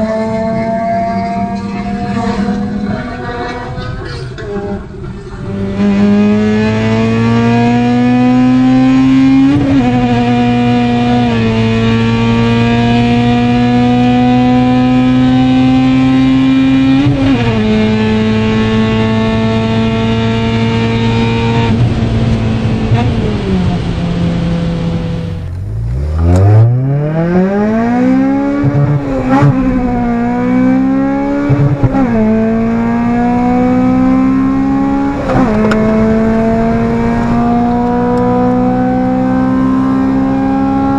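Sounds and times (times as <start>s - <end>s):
car engine revving under load: 0.0s - 40.9s.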